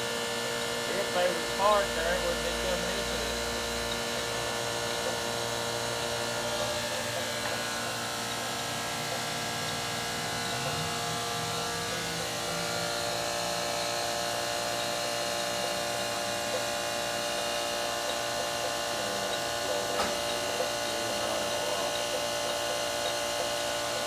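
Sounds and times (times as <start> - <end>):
grinder motor whine: 0.0 - 24.0.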